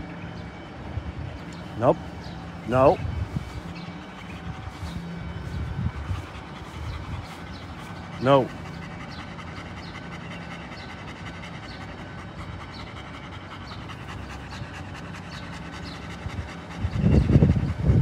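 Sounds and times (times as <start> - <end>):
low rumbling noise: 0.8 - 18.0
dogs panting: 1.4 - 18.0.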